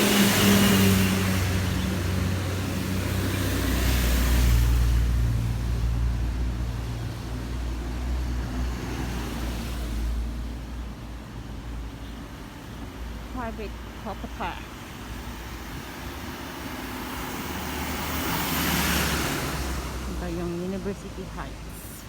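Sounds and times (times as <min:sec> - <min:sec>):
heavy vehicle engine drone: 0:00.0 - 0:10.3, 0:10.9 - 0:22.0
vehicles passing: 0:00.0 - 0:22.0.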